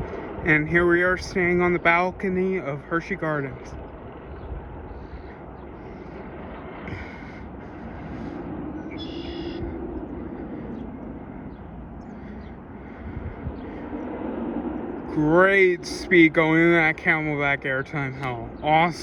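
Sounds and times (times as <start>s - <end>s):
distant roller coaster rumble: 0.0s - 19.0s.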